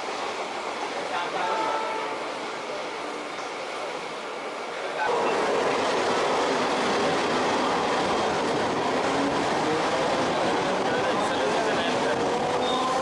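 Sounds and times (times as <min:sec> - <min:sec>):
electric train on rails: 0:00.0 - 0:13.0.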